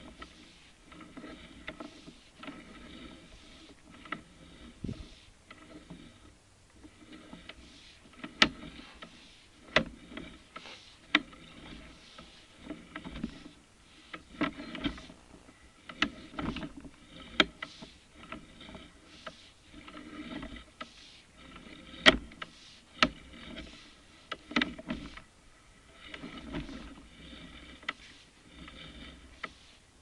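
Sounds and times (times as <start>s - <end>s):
scraping and shuffling: 0.0s - 30.0s.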